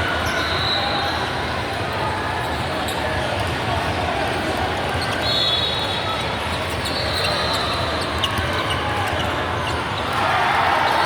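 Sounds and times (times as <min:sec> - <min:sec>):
crowd and hall noise: 0:00.0 - 0:11.0.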